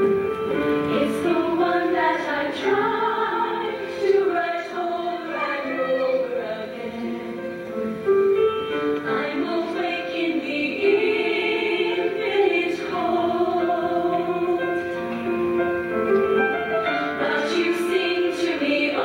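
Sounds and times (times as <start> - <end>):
female choir singing: 0.6 - 7.8, 8.9 - 15.1, 16.9 - 19.0.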